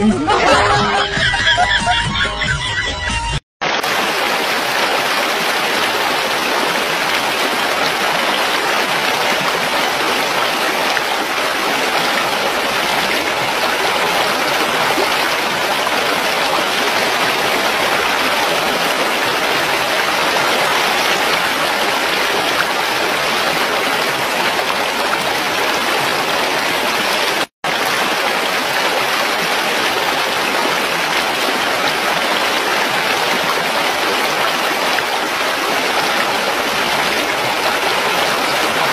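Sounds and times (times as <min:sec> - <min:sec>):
stream flowing over rocks: 0:03.6 - 0:38.9.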